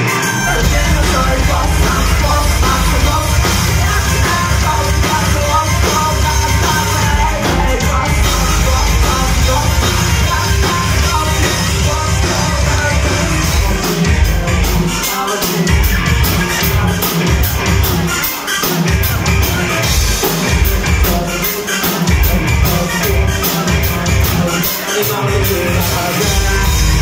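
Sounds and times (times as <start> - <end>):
distorted electric guitar: 0.0 - 27.0
drums: 0.0 - 27.0
vocals: 0.0 - 27.0.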